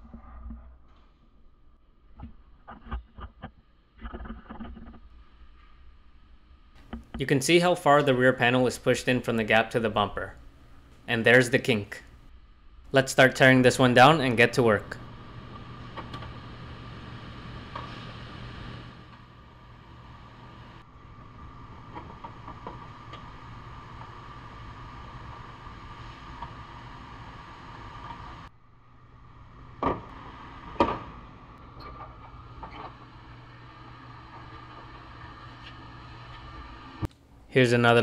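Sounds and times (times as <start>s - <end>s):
steady background hum: 0.2s - 38.0s.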